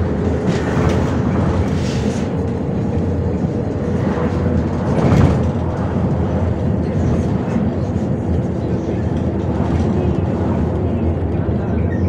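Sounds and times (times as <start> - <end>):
bus engine and tyres rumbling: 0.0 - 12.0.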